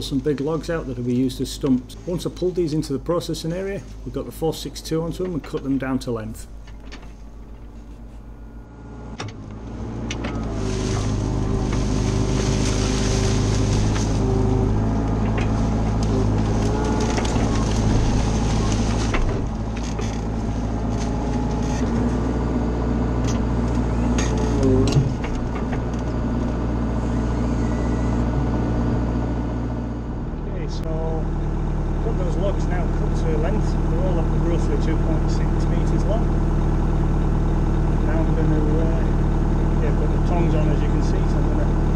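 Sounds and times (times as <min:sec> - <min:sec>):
engine running under load: 0:00.0 - 0:41.9.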